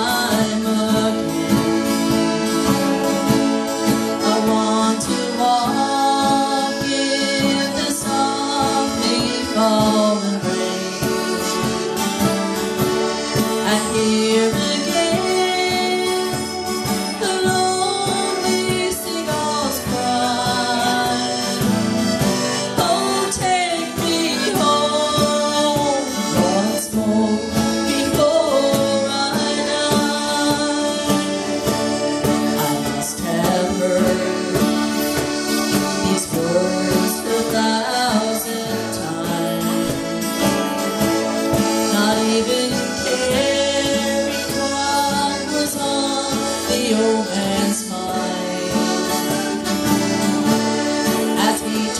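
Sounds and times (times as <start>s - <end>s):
bowed fiddle melody: 0.0s - 51.9s
cajon beat: 0.0s - 51.9s
strummed acoustic guitar: 0.0s - 51.9s.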